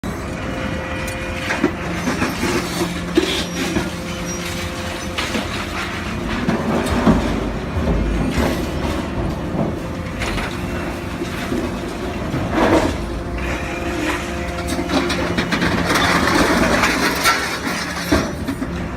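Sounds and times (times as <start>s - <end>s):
heavy low rumble: 0.0s - 18.9s
machine hum: 0.0s - 18.9s
metal clanks and knocks: 1.4s - 18.9s.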